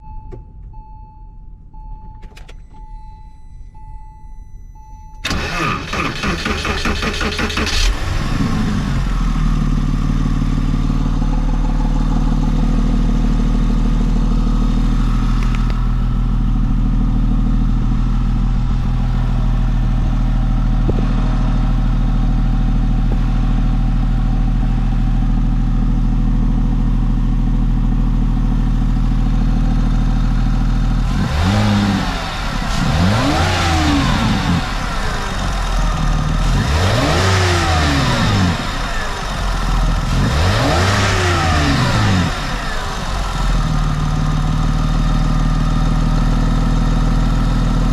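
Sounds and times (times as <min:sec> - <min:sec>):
car engine starting and idling: 0:00.0 - 0:47.9.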